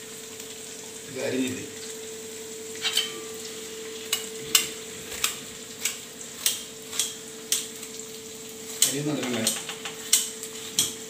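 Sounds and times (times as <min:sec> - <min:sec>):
onions frying in pan: 0:00.0 - 0:11.0.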